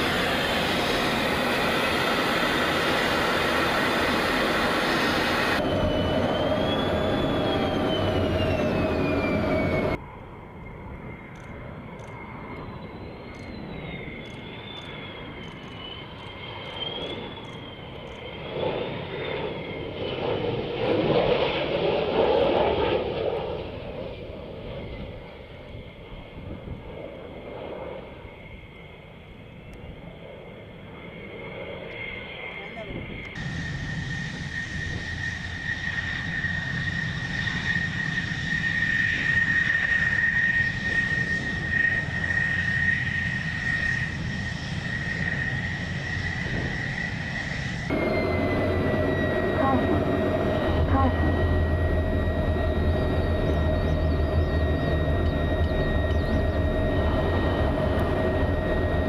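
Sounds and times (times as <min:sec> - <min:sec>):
high whine: 0:00.0 - 0:21.1, 0:32.6 - 0:59.0
jet fighter passing low: 0:00.0 - 0:59.0
jet noise inside cockpit: 0:00.0 - 0:59.0.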